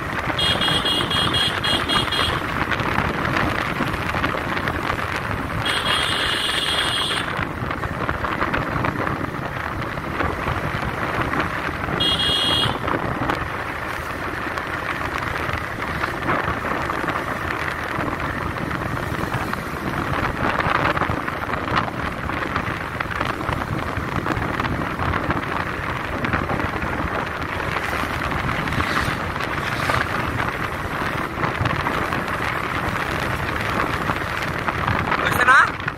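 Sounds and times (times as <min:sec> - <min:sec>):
motorcycle engine at speed: 0:00.0 - 0:35.9
wind rushing over microphone: 0:00.0 - 0:35.9.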